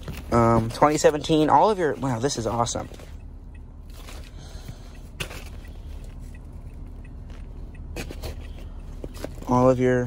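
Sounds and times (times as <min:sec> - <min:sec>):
low cabin hum: 0:00.0 - 0:10.0.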